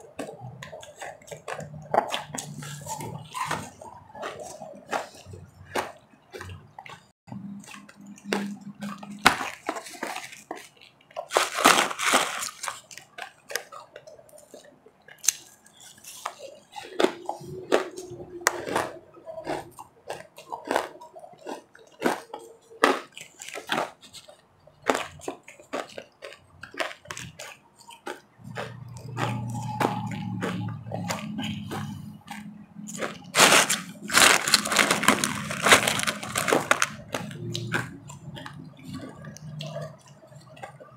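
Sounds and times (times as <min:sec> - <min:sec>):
chewing and crunching ice: 0:00.0 - 0:40.9.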